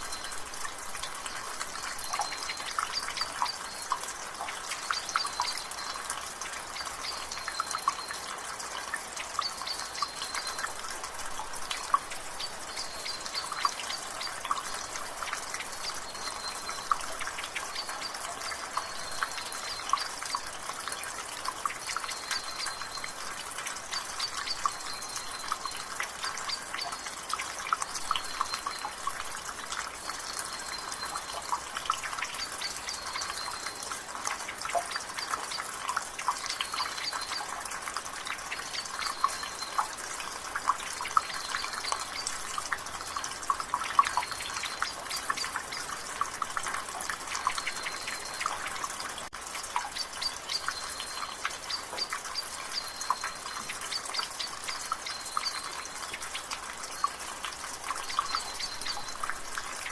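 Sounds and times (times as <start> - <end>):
rain patter: 0.0 - 59.9
water dripping from gutter: 0.0 - 59.9.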